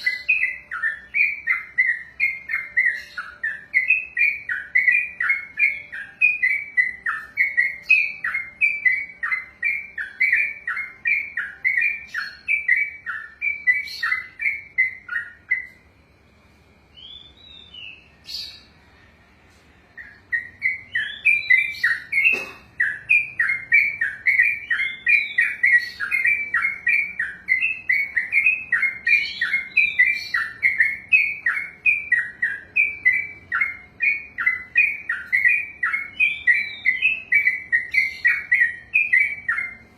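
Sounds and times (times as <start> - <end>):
bird singing rapid chirps: 0.0 - 16.1, 16.8 - 19.0, 19.9 - 39.9.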